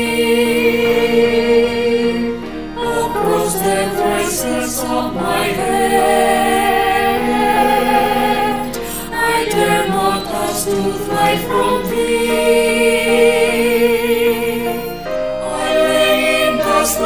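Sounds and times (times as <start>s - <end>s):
mixed choir singing chords: 0.0s - 17.0s.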